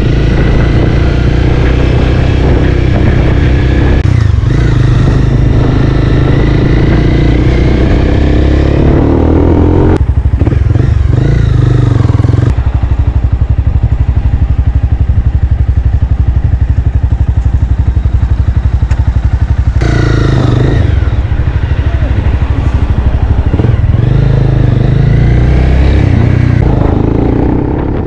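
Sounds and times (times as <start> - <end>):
motorcycle engine running: 0.0 - 28.0
traffic noise: 0.0 - 28.0.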